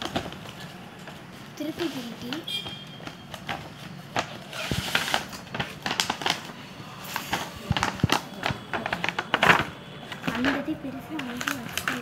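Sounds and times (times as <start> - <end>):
cardboard boxes and plastic rustling: 0.0 - 12.0.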